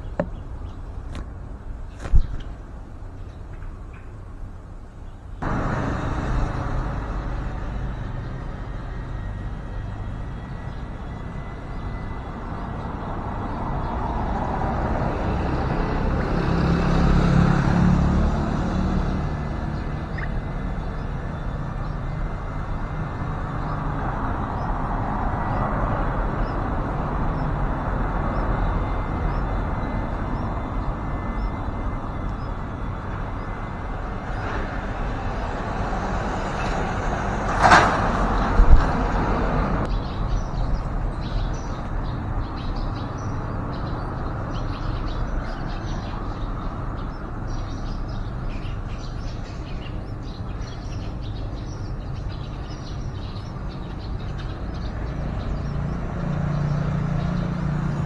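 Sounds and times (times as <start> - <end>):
road traffic rumble: 0.0 - 58.0
vehicle passing: 5.4 - 58.0.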